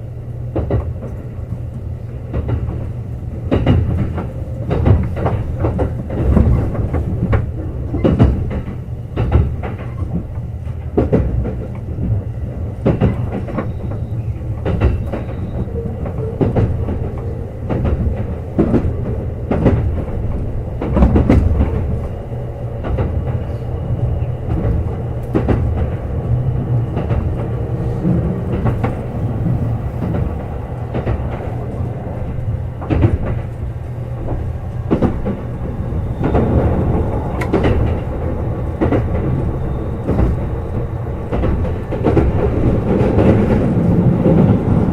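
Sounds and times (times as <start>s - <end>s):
train wheels rumbling on track: 0.0s - 44.9s
wheels clacking over rail joints: 0.5s - 44.9s.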